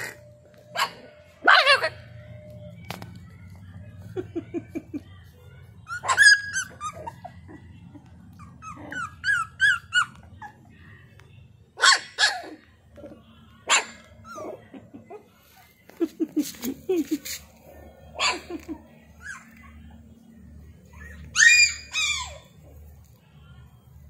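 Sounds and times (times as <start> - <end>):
puppies whining and yelping: 0.0 - 11.2, 13.7 - 23.2.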